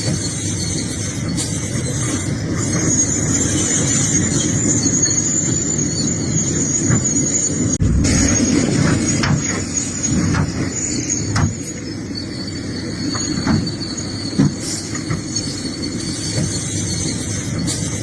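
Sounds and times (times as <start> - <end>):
high metallic squeal: 0.0 - 18.0.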